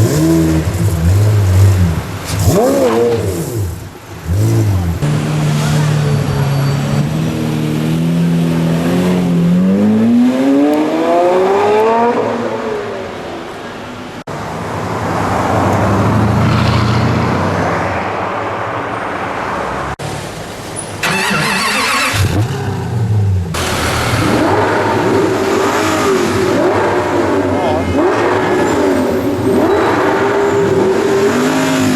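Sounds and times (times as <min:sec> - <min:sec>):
car engines accelerating hard: 0:00.0 - 0:31.9.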